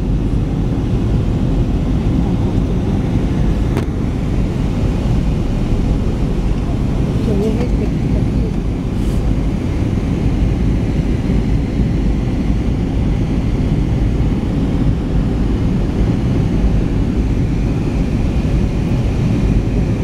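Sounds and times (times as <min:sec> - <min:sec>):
airliner cabin rumble: 0:00.0 - 0:20.0
faint steady hum: 0:00.0 - 0:20.0.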